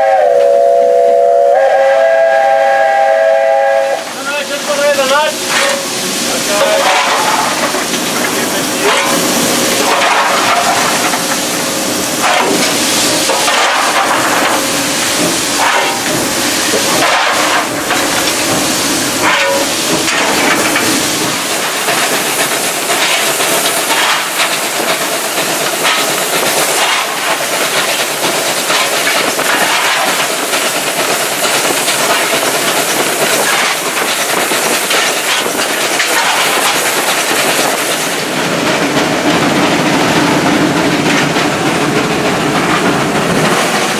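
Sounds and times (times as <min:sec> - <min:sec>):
steam hissing: 0:00.0 - 0:43.9
steam engine clattering: 0:01.6 - 0:43.9.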